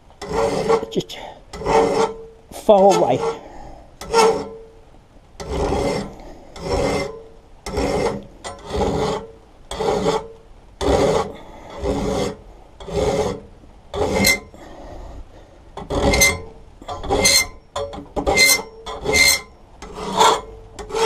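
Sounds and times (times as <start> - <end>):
file rasping on steel blade: 0.2 - 4.6, 5.4 - 14.5, 15.8 - 21.0.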